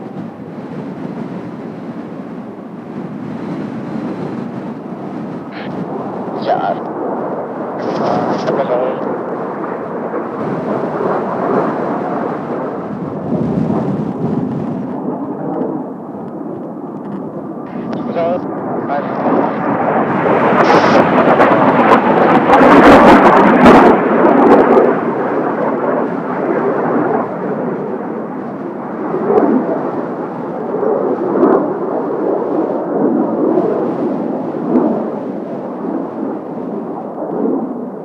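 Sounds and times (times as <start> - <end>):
jet roar: 0.0 - 38.0.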